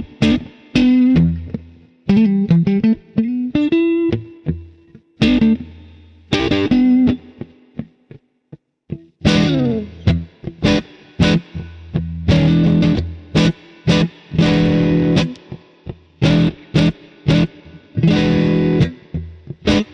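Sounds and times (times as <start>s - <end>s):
overdriven electric guitar: 0.0s - 8.2s, 8.9s - 19.9s.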